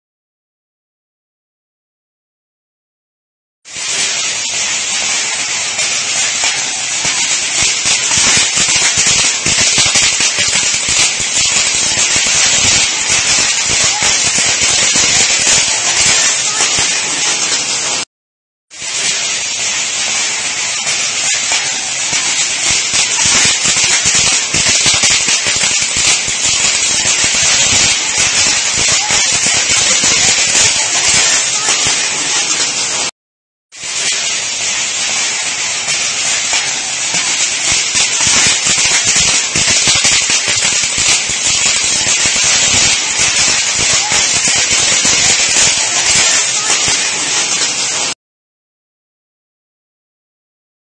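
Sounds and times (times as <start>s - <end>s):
fireworks crackling and popping: 3.6s - 18.1s, 18.7s - 33.1s, 33.7s - 48.2s.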